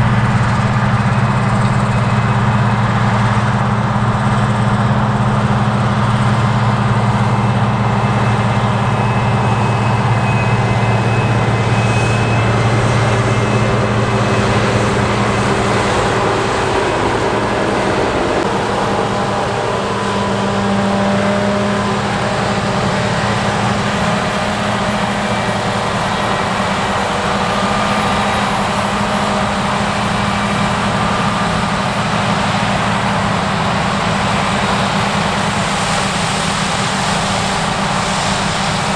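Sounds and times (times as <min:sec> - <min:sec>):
diesel machinery engine drone: 0:00.0 - 0:38.9.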